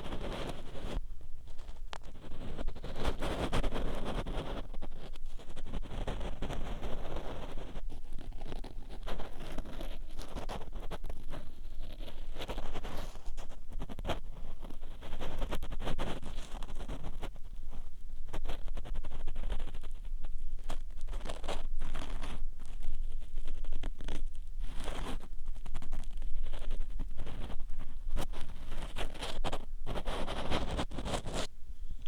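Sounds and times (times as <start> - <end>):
tool scraping in microphone ear: 0.0 - 31.5.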